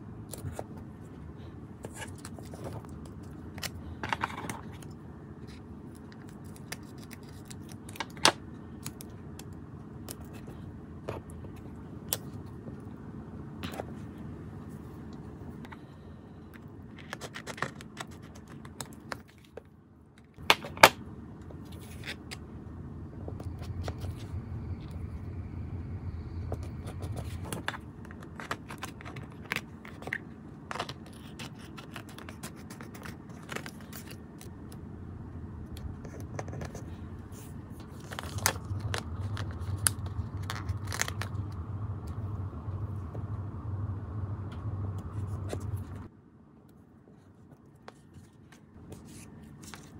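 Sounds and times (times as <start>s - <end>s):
low steady hum: 0.0s - 49.9s.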